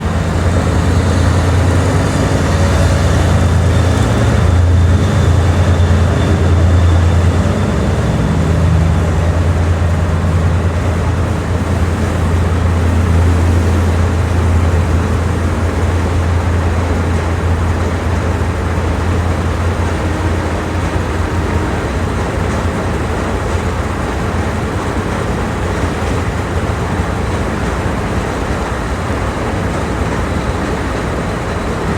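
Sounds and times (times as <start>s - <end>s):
noisy hiss: 0.0s - 31.9s
train rumbling: 0.0s - 31.9s.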